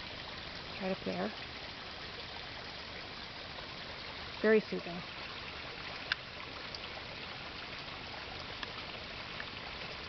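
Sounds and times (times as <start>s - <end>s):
creek water trickling: 0.0s - 10.0s.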